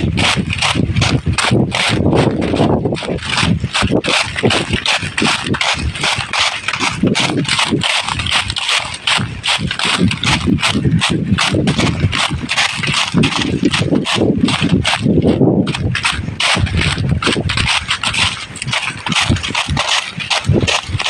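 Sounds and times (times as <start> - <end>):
footsteps crunching dry leaves: 0.0 - 21.0.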